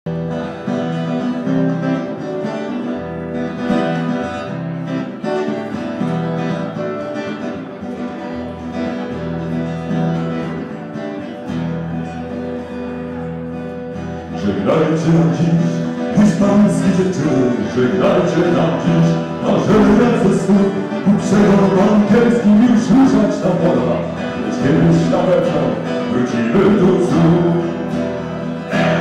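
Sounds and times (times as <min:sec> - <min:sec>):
acoustic guitar strumming: 0:00.1 - 0:29.0.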